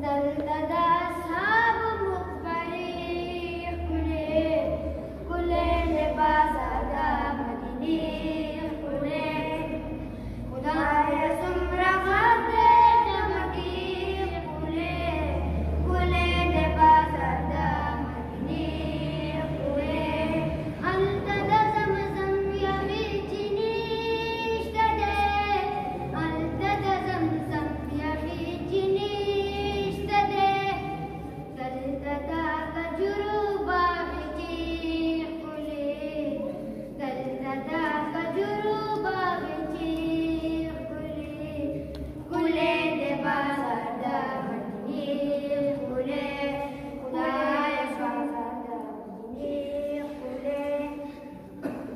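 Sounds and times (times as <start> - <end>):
boys singing unaccompanied: 0.0 - 51.9
low steady hum: 0.0 - 51.9.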